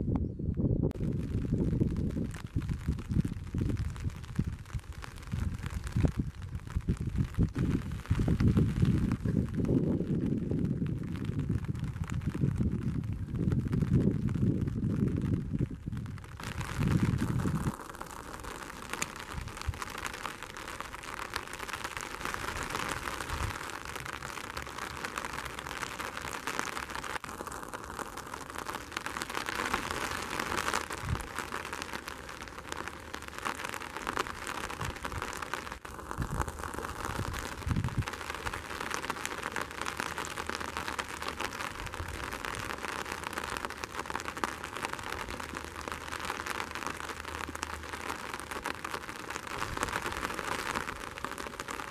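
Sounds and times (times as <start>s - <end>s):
steady rain: 0.9s - 51.9s.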